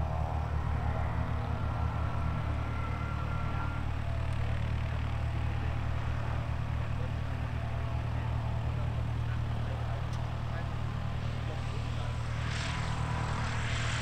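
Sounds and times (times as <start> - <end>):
propeller aircraft engine: 0.0 - 14.0.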